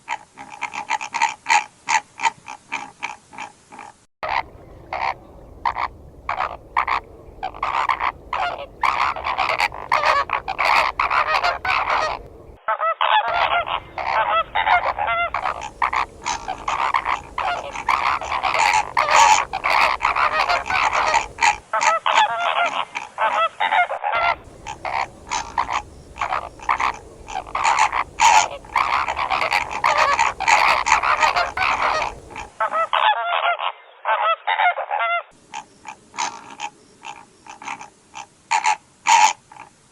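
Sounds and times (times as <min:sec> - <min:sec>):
flamingos honking: 0:00.1 - 0:39.7.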